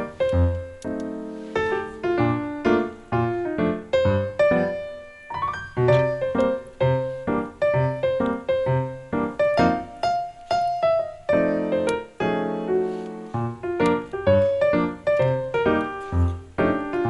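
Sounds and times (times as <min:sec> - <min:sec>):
piano notes: 0:00.0 - 0:17.0.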